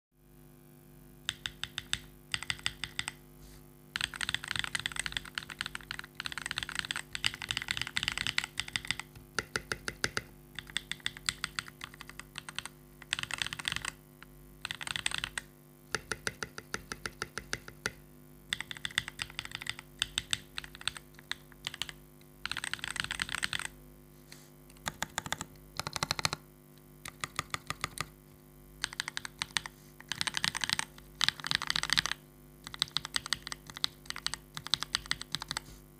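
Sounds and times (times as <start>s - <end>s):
faint steady hum: 0.2s - 35.9s
mechanical keyboard typing: 1.3s - 3.2s, 4.0s - 14.0s, 14.6s - 23.7s, 24.7s - 26.4s, 27.0s - 28.1s, 28.8s - 35.7s.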